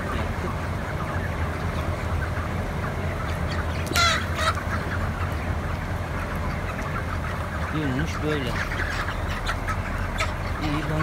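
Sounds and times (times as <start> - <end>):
chicken squawks: 0.0 - 11.0
chickens chattering: 0.0 - 11.0.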